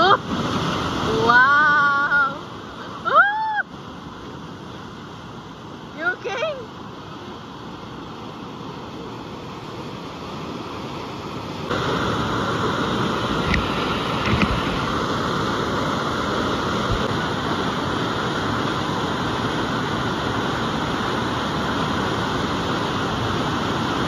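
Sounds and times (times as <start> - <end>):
water rushing over a slope: 0.0 - 24.0.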